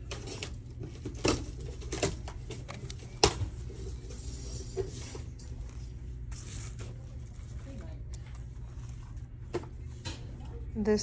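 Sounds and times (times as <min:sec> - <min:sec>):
basket rustling: 0:00.0 - 0:10.6
steady low hum: 0:00.0 - 0:11.0.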